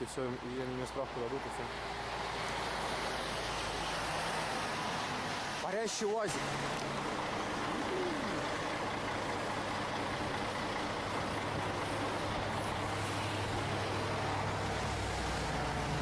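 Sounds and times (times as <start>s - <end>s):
outdoor noise: 0.0s - 16.0s
truck engine humming: 0.0s - 16.0s.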